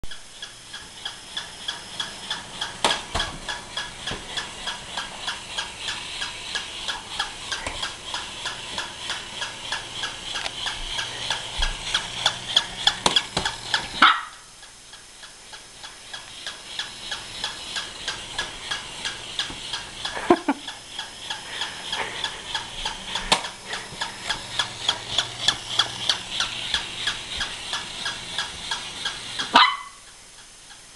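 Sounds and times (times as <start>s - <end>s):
toy dog mechanism ticking: 0.2s - 30.9s.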